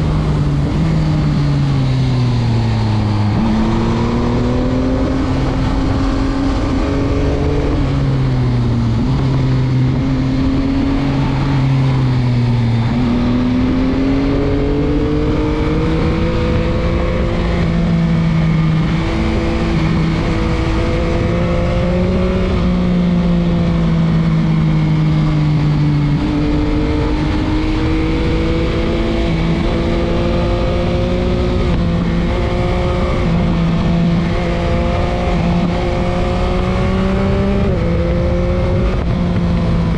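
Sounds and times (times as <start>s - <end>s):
motorcycle engine revving: 0.0s - 39.9s
wind rumble on microphone: 0.0s - 39.9s.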